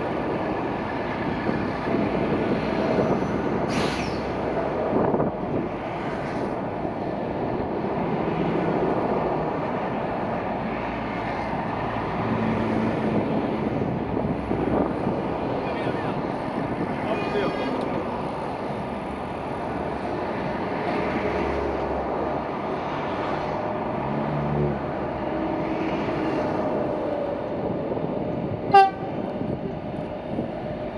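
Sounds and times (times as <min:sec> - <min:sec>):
freight train rumbling: 0:00.0 - 0:30.9.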